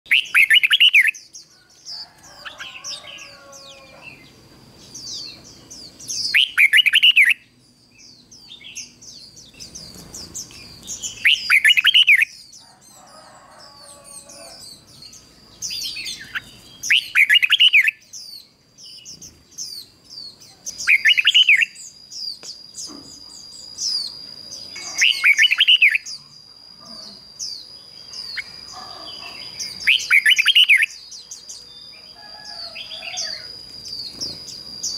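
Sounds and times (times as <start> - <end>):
bird singing song phrases: 0.1 - 34.9
quiet high twittering: 0.1 - 34.9.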